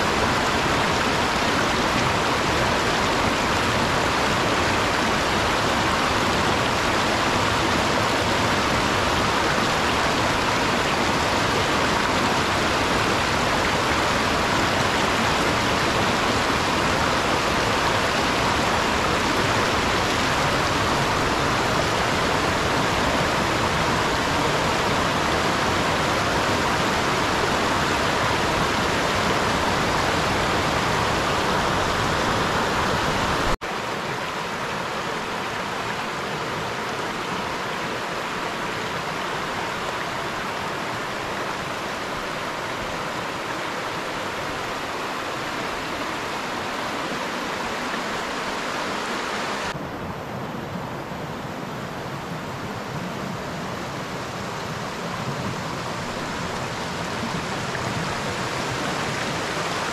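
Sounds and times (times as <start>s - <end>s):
creek water running over rocks: 0.0s - 49.8s, 51.4s - 59.9s.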